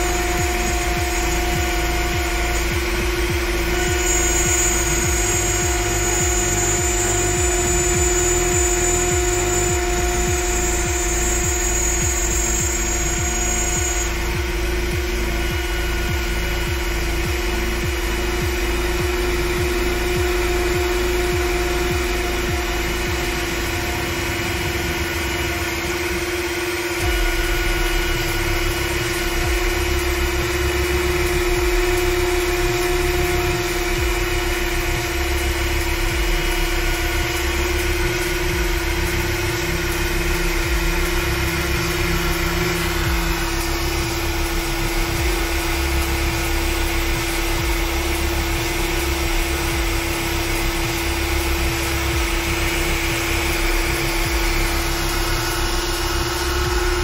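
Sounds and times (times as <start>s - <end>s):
low machine rumble: 0.0s - 57.0s
router spindle high pitch whine: 0.0s - 57.0s.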